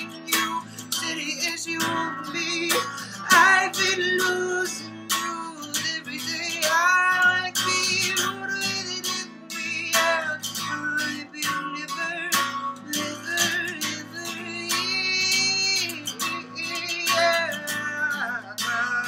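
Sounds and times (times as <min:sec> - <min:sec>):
acoustic guitar strumming: 0:00.0 - 0:19.0
man singing: 0:00.0 - 0:19.0.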